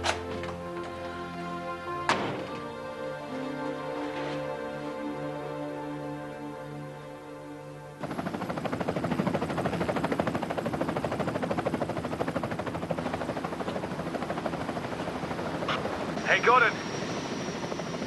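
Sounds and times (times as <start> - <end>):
helicopter rotors and engine: 0.0 - 18.0.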